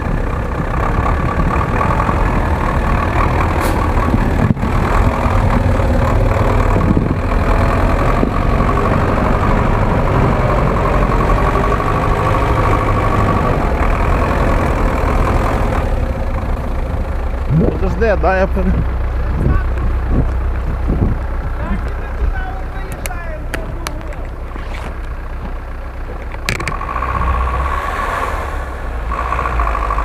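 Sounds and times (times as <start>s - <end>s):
truck engine running at low revs: 0.0s - 30.0s.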